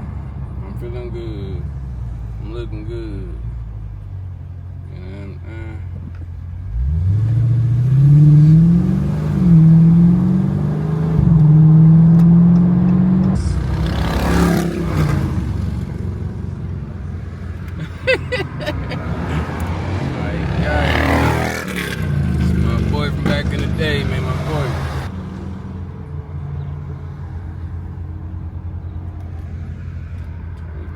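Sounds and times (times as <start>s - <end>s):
car engine accelerating hard: 5.4s - 30.9s.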